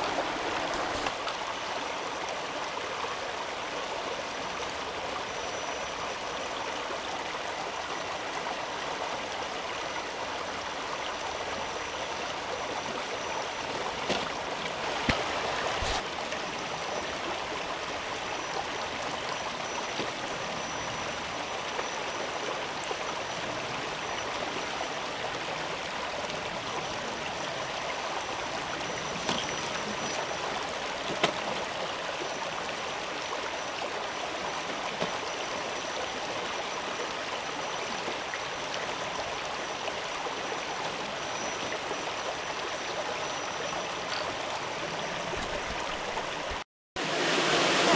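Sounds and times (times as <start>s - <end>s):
stream babbling over stones: 0.0s - 47.9s.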